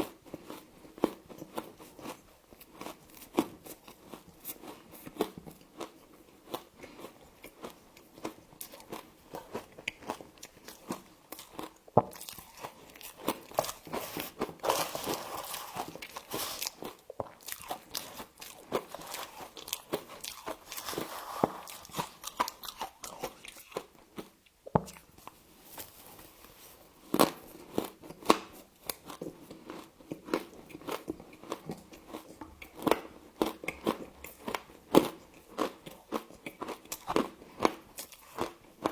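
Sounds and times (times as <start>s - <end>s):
person chewing frost crunches: 0.0s - 38.9s.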